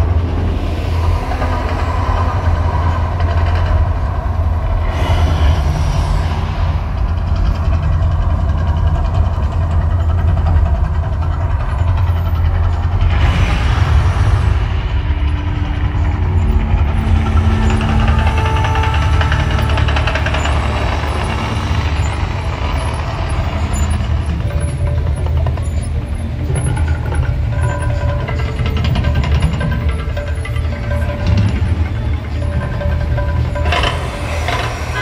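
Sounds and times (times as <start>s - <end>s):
deep low rumble: 0.0s - 35.0s.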